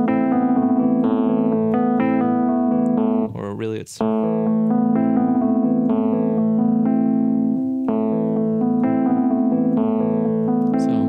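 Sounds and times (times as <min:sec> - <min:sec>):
digital piano broken chords: 0:00.0 - 0:11.0.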